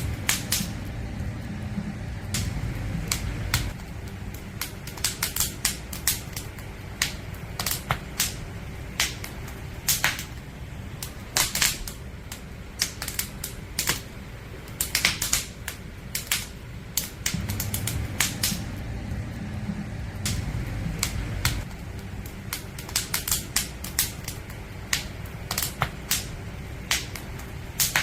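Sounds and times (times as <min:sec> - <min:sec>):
campfire crackling and popping: 0:00.0 - 0:28.0
low steady fire rumble: 0:00.0 - 0:28.0.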